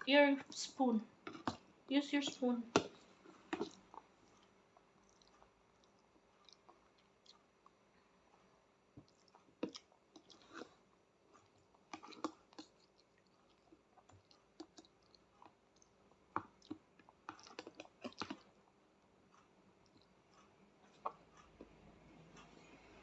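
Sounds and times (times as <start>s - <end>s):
child chewing food: 0.2s - 23.0s.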